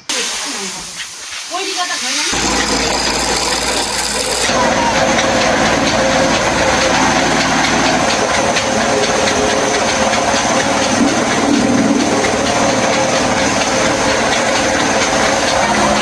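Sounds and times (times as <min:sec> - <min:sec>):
mill machine drone: 0:00.0 - 0:16.0.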